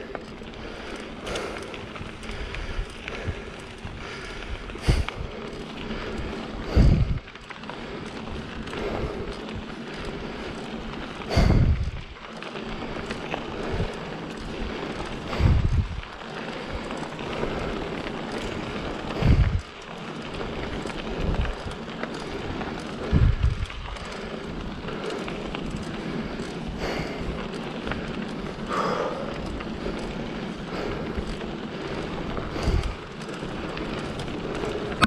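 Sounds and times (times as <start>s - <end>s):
tyres rolling on dirt road: 0.0s - 35.0s
wind buffeting microphone: 0.0s - 35.0s.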